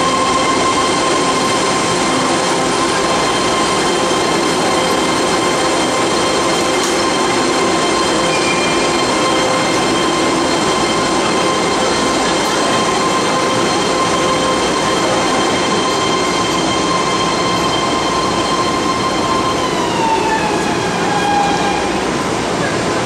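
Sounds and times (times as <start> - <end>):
train high whine: 0.0 - 23.0
train rolling on rails: 0.0 - 23.0.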